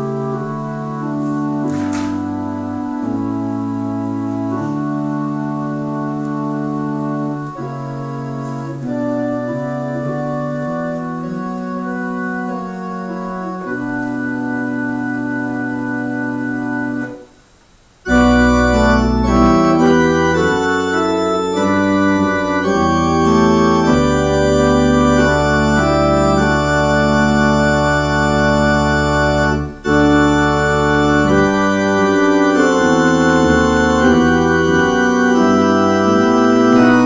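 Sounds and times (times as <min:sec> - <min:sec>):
organ chords: 0:00.0 - 0:37.0.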